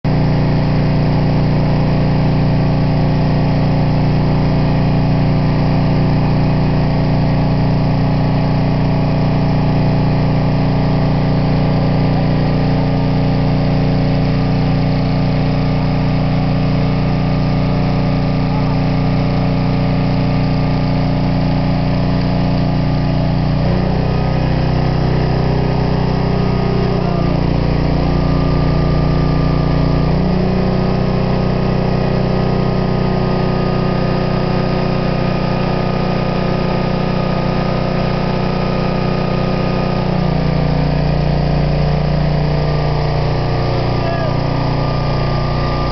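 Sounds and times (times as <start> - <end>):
portable welder engine running: 0.1 - 45.9.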